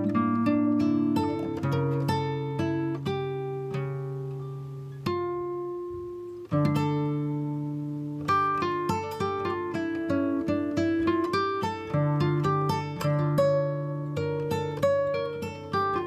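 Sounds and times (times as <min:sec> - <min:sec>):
plucked string instrumental music: 0:00.0 - 0:16.0.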